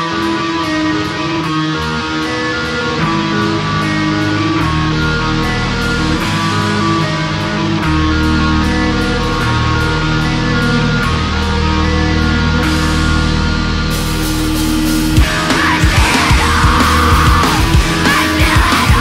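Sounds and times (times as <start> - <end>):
bass guitar: 0.0 - 19.0
electric guitars playing chords: 0.0 - 19.0.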